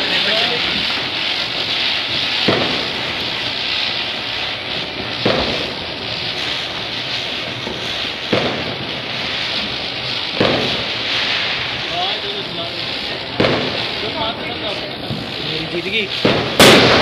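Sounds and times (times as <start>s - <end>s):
firecracker bangs: 0.0s - 17.0s
ground spinners hissing: 0.0s - 17.0s.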